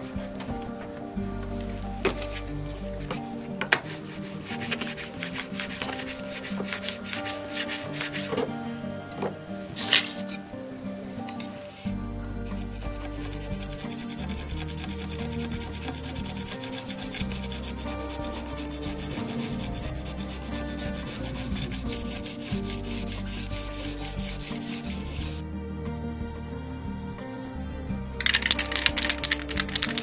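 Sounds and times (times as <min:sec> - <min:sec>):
abrasive rubbing strokes: 0:00.0 - 0:25.4
background music with bass: 0:00.0 - 0:30.0.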